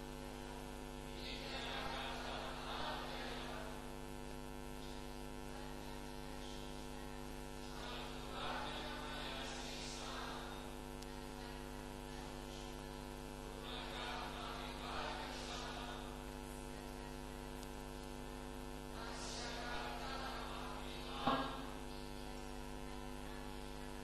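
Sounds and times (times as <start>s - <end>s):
electrical mains hum: 0.0s - 24.0s
faint indistinct noise swells: 0.0s - 24.0s.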